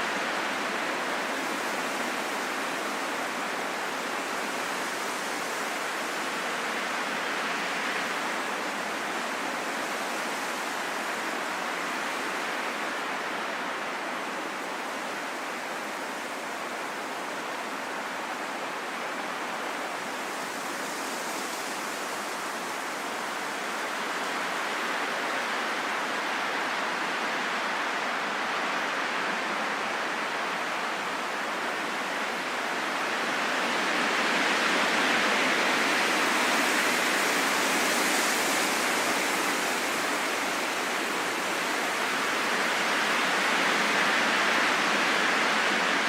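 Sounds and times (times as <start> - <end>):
wind hiss: 0.0 - 46.0.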